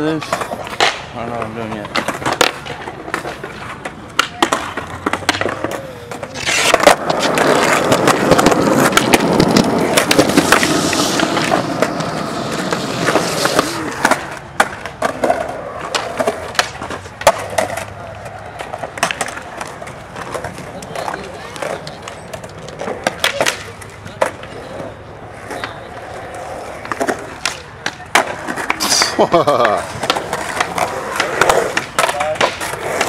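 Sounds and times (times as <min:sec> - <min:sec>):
skateboard popping and landing: 0:00.0 - 0:33.0
skateboard wheels rolling on concrete: 0:00.0 - 0:33.0.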